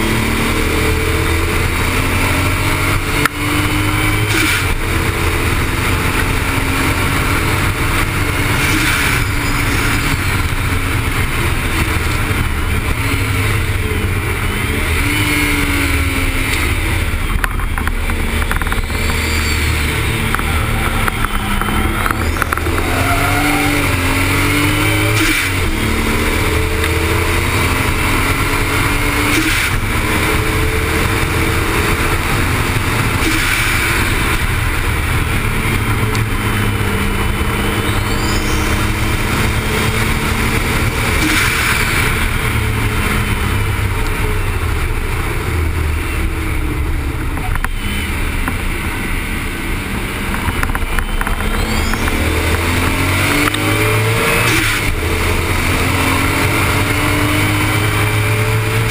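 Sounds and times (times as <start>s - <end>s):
car engine revving: 0.0s - 58.9s
road noise: 0.0s - 58.9s.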